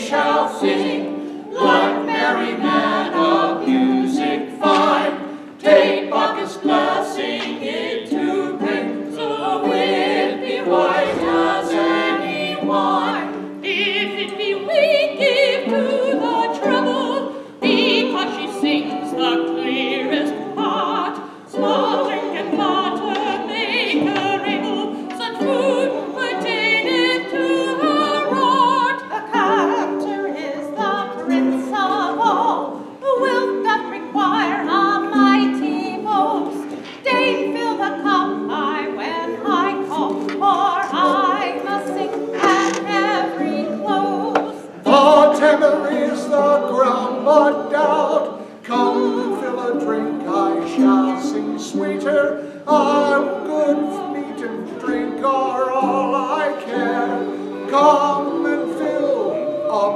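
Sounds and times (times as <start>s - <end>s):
voices singing in harmony: 0.0s - 59.9s.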